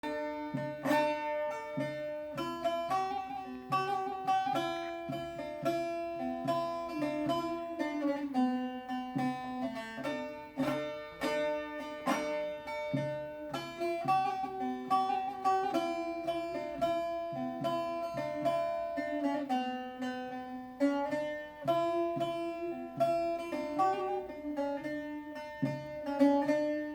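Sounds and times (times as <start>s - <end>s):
plucked long-necked lute melody: 0.0s - 26.9s.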